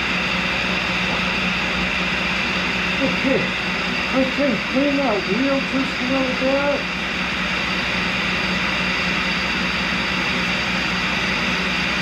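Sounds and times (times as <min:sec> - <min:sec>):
grinding wheel running: 0:00.0 - 0:12.0
shop vacuum whirring: 0:00.0 - 0:12.0.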